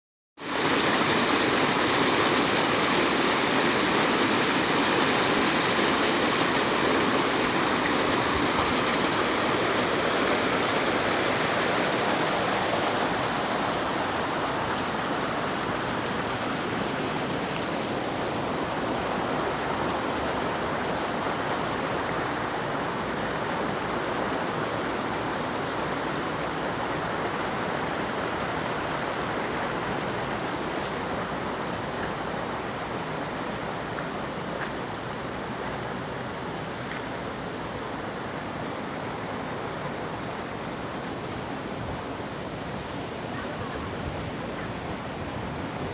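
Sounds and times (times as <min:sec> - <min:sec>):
rush of flowing water: 0:00.4 - 0:45.9.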